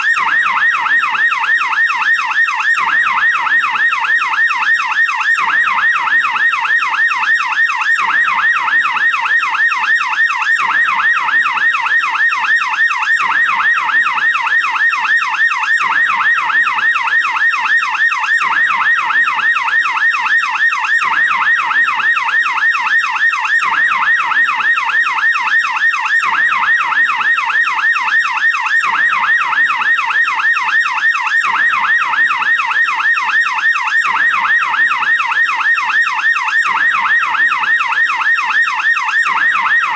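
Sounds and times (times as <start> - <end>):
police siren yelping: 0.0 - 39.9.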